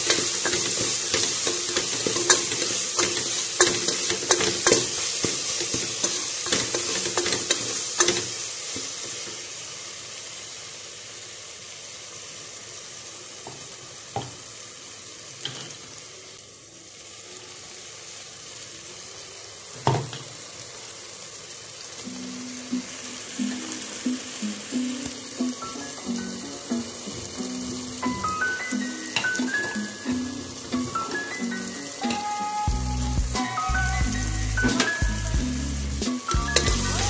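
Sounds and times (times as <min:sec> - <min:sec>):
spices sizzling in hot oil: 0:00.0 - 0:37.0.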